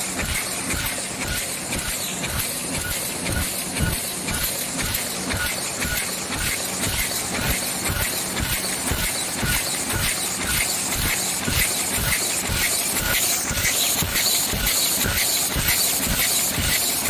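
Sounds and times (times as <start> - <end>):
machine clattering: 0.0 - 17.0.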